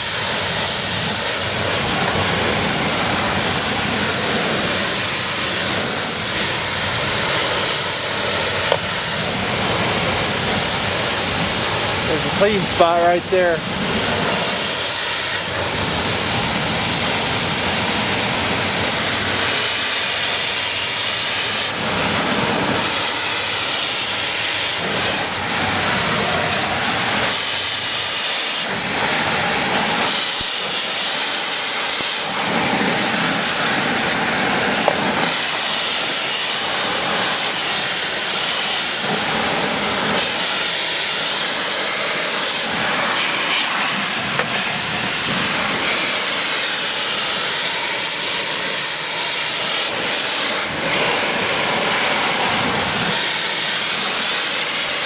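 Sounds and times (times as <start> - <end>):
pressure washer spraying: 0.0 - 55.0.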